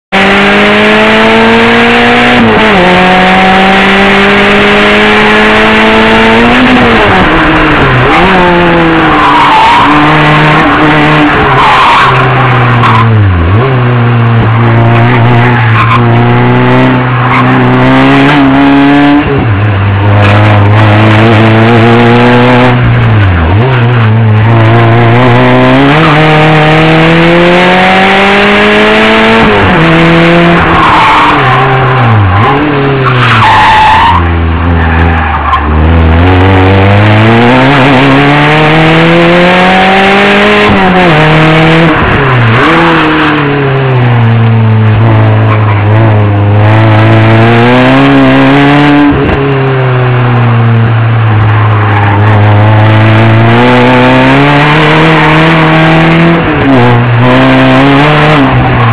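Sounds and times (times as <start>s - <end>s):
racing car engine revving: 0.1s - 58.9s.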